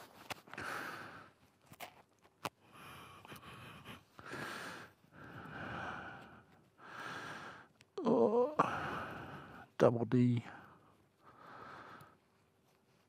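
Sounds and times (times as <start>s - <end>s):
person breathing heavily: 0.0s - 1.4s, 2.6s - 9.8s, 10.5s - 12.4s.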